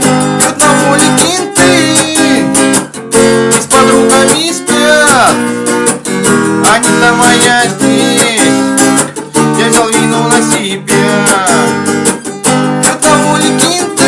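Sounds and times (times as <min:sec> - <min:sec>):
sliding melody line: 0:00.0 - 0:14.0
strummed acoustic guitar: 0:00.0 - 0:14.0.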